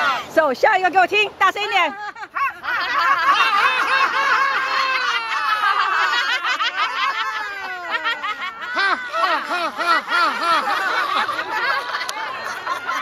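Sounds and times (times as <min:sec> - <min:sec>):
group of adults laughing: 0:01.9 - 0:13.0.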